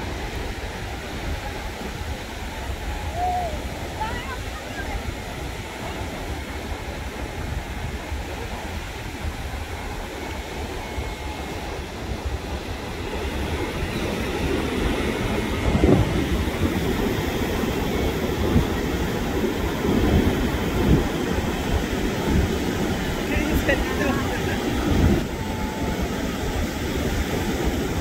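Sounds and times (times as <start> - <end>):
surf breaking on beach: 0.0 - 28.0
wind rumbling on microphone: 0.0 - 28.0.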